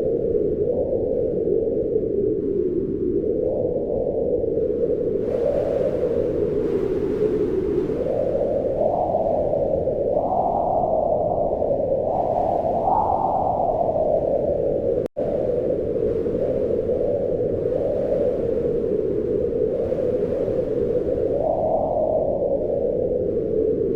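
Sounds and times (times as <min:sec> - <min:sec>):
wind blowing in gusts: 0:00.0 - 0:23.9.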